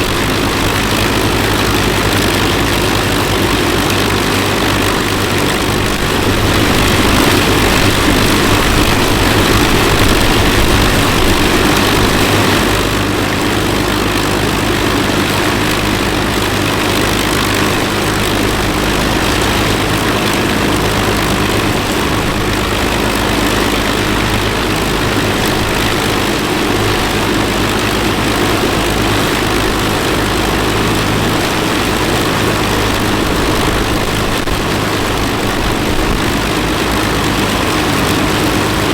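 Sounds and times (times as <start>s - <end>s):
aircraft piston engines running: 0.0s - 38.9s.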